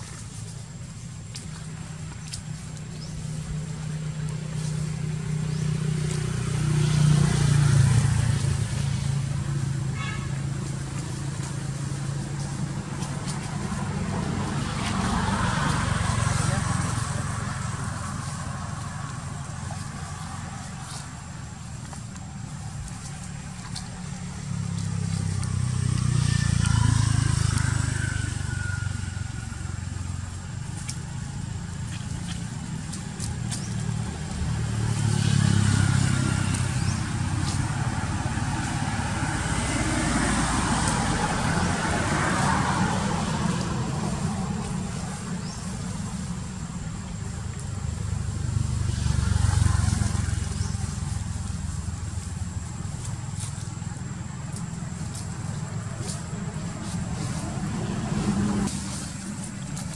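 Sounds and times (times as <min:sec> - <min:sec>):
vehicles passing on a road: 0:00.0 - 0:59.9.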